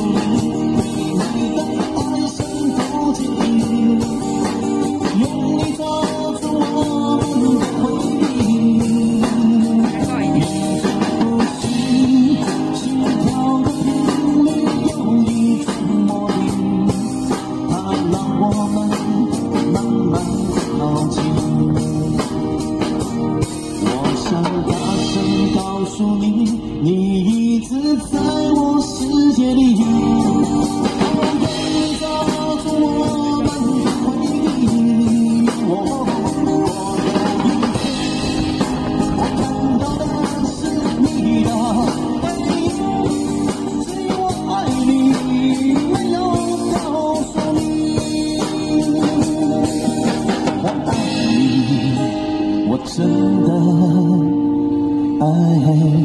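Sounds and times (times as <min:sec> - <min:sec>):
drum kit beat: 0:00.0 - 0:54.4
acoustic guitar: 0:00.0 - 0:56.0
man singing: 0:00.0 - 0:56.0.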